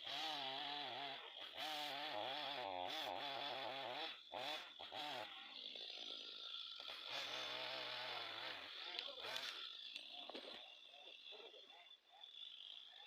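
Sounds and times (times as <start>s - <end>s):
chainsaw cutting a tree: 0.0s - 13.0s.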